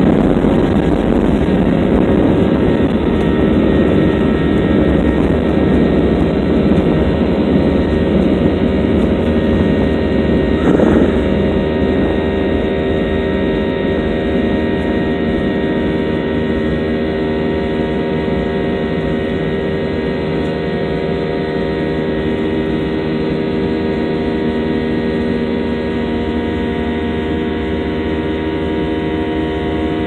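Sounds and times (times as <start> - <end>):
airliner engines droning: 0.0 - 30.0.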